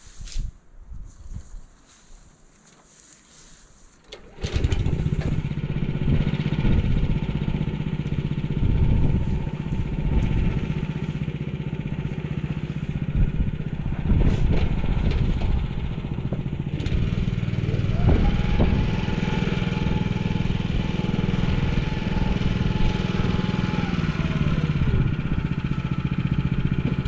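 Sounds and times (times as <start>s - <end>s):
tractor engine starting and running: 4.0s - 27.0s.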